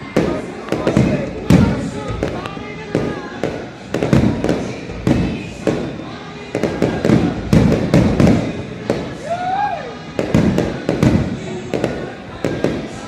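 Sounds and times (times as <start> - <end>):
fireworks booms and cracks: 0.0 - 13.0.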